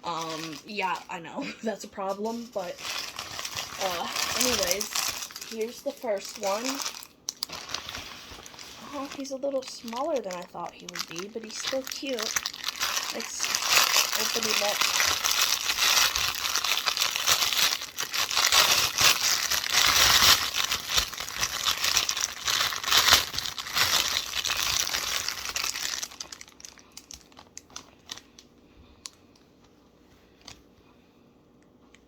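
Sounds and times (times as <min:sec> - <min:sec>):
packaging crinkling and tearing: 0:00.0 - 0:01.2, 0:01.8 - 0:28.5.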